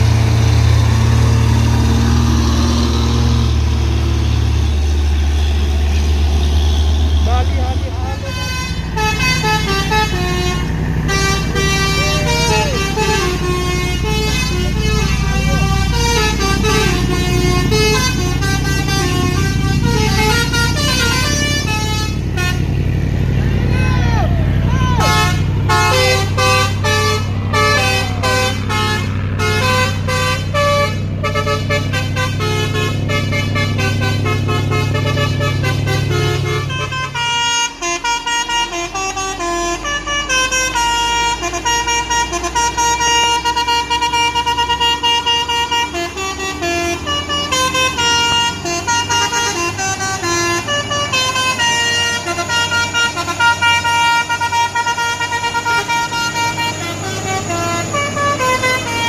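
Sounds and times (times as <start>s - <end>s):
diesel truck engine running: 0.0s - 59.0s
musical truck air horn: 8.2s - 22.8s, 25.0s - 59.0s.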